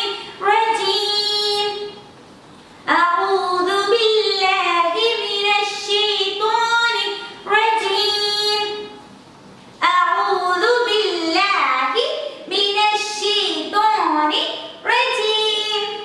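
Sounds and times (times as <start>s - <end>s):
woman singing unaccompanied: 0.0s - 2.0s, 2.9s - 9.0s, 9.8s - 16.0s.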